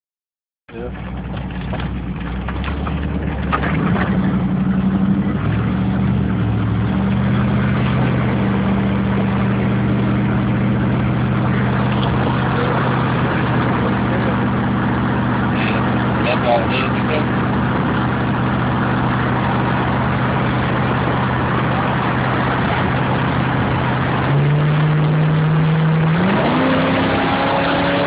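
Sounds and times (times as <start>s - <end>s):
car engine running: 0.7s - 28.0s.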